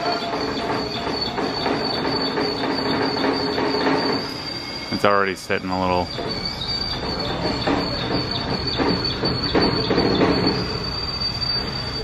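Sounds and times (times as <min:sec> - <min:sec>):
high-pitched machine whine: 0:00.0 - 0:12.0.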